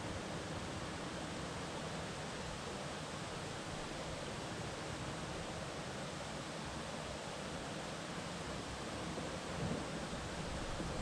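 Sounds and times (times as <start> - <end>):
river running among rocks: 0.1 - 11.0.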